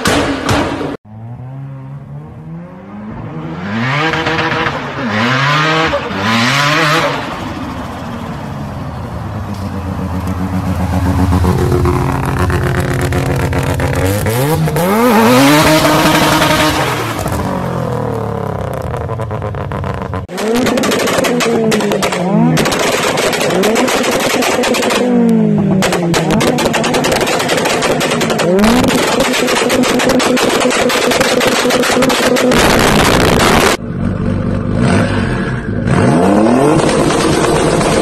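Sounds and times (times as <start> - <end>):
car engine revving: 1.0 - 38.0.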